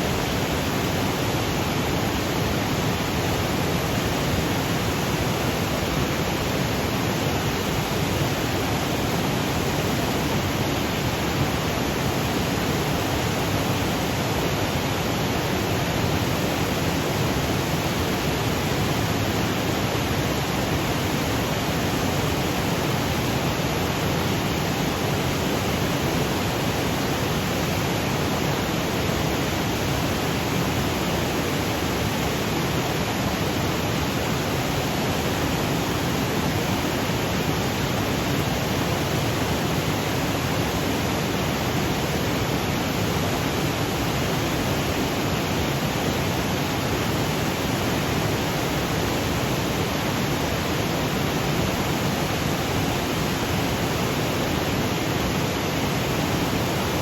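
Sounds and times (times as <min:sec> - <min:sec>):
waterfall rushing over boulders: 0:00.0 - 0:57.0.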